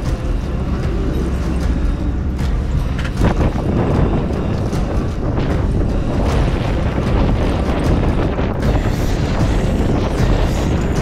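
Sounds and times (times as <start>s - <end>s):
choppy sea: 0.0s - 11.0s
wind buffeting microphone: 0.0s - 11.0s.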